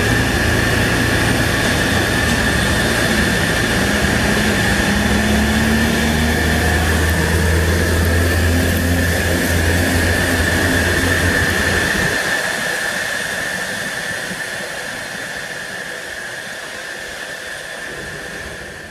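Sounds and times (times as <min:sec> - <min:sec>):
high-pitched whine: 0:00.0 - 0:18.9
low engine drone: 0:00.0 - 0:18.9.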